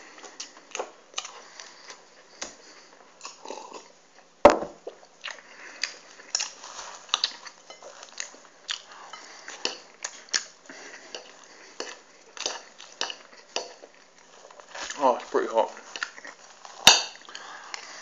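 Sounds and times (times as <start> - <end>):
chewing: 0.1 - 4.3, 4.9 - 18.0.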